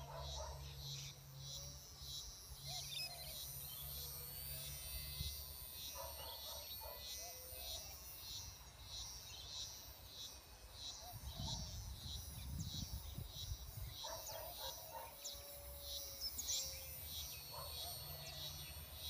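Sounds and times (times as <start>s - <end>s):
birds calling: 0.0s - 19.0s
insect chirping: 0.0s - 19.0s.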